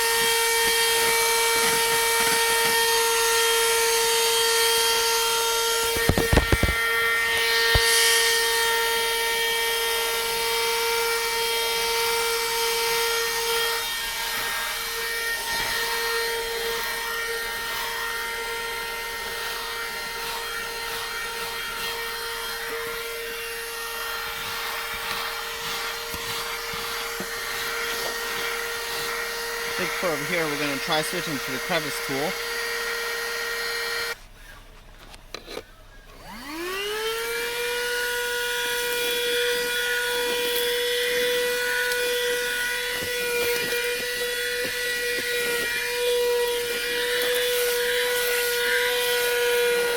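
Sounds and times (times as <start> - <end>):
handheld vacuum motor whine: 0.0 - 49.9.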